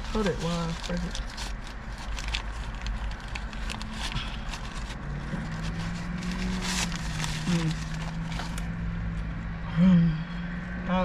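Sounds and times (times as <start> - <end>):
food packaging rustling: 0.0 - 8.8.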